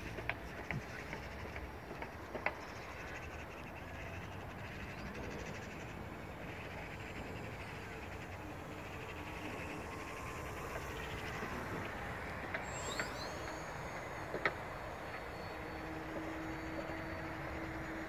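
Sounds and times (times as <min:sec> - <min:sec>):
distant model plane drone: 0:00.0 - 0:18.0.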